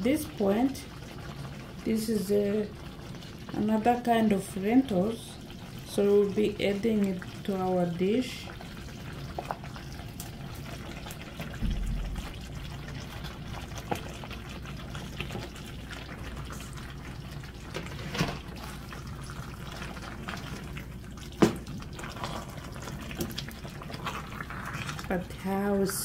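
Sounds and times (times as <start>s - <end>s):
sauce bubbling: 0.0s - 26.0s.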